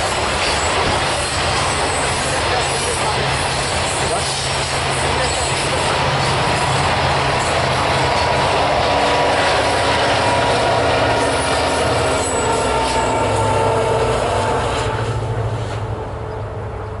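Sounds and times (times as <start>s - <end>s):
diesel locomotive engine drone: 0.0s - 17.0s
wheels rumbling on rails: 0.0s - 17.0s.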